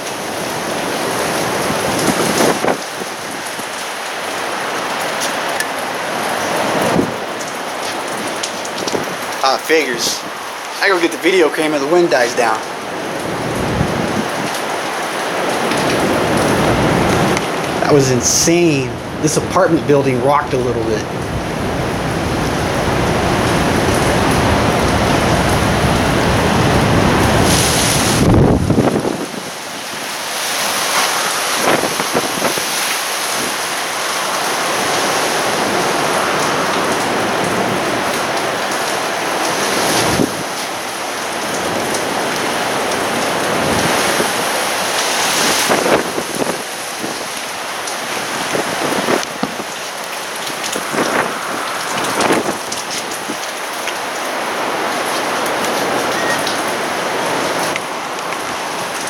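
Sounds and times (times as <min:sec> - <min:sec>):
rain hissing: 0:00.0 - 0:59.0
wind gusts: 0:00.0 - 0:59.0.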